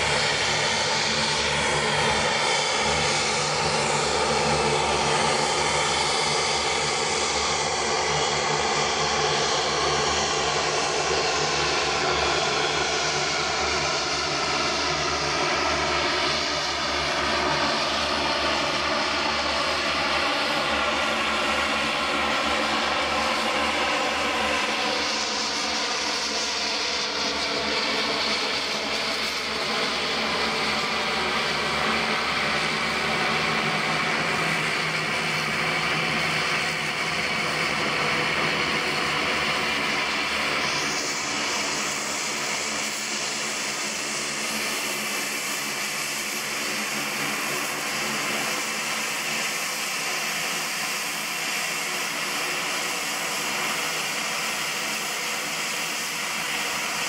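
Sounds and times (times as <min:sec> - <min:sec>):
turboprop plane taxiing: 0:00.0 - 0:57.0.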